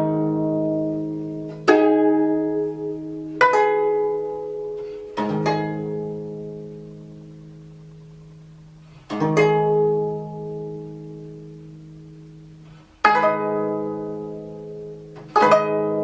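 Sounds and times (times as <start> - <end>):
plucked zither chords: 0.0 - 16.0.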